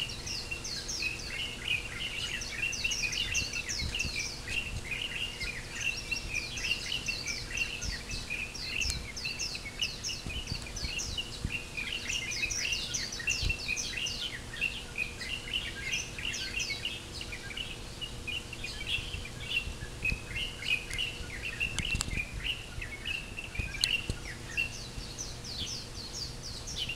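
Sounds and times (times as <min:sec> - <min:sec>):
small birds chirping and singing: 0:00.0 - 0:26.9.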